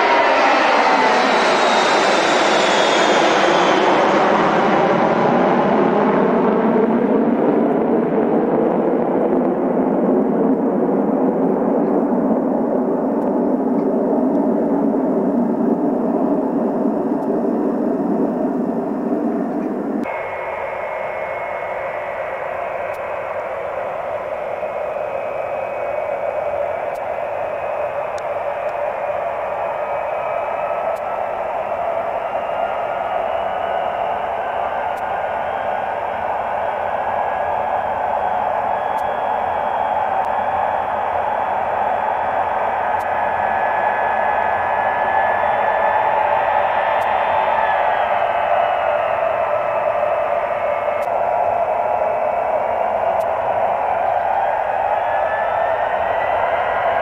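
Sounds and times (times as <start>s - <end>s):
jet engines rumbling: 0.0s - 57.0s
jet engines whining: 0.0s - 57.0s.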